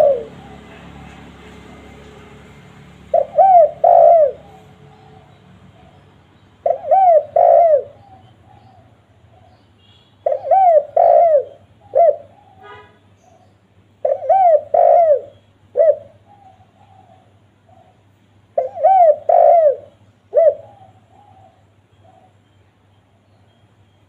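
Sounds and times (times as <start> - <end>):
dove cooing: 0.0 - 9.6, 10.2 - 22.6.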